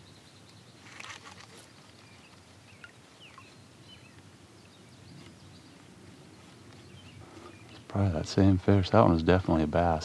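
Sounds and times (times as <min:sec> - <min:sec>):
birds chirping faintly: 0:00.0 - 0:10.0
low background hiss: 0:00.0 - 0:10.0.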